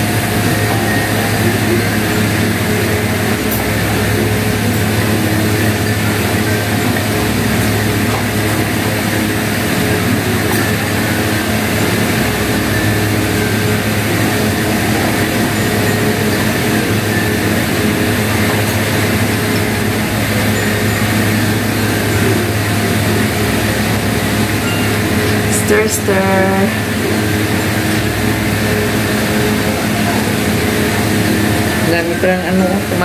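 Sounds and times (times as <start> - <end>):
electric fan whirring: 0.0 - 33.0.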